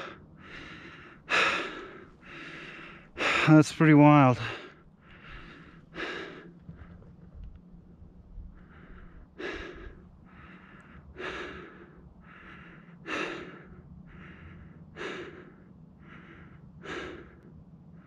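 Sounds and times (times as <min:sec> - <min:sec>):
person breathing hard: 0:00.0 - 0:07.1, 0:08.5 - 0:18.0.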